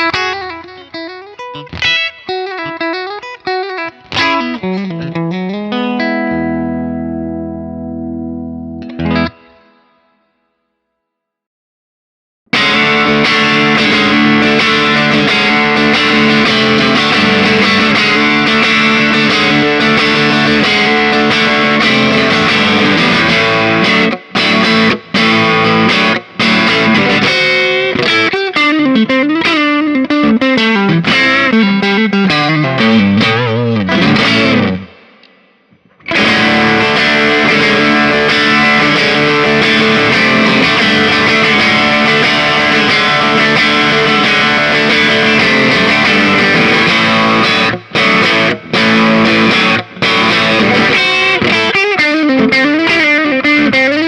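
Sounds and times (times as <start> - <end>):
overdriven electric guitar: 0.0 - 10.4, 12.5 - 54.0.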